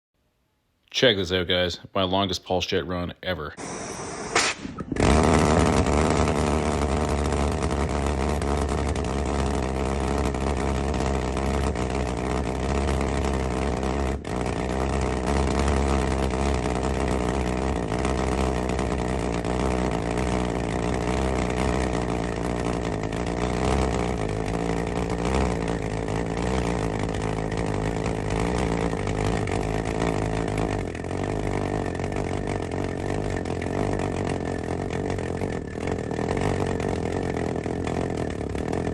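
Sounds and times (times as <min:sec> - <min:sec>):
pulsejet engine droning: 0:03.5 - 0:38.9.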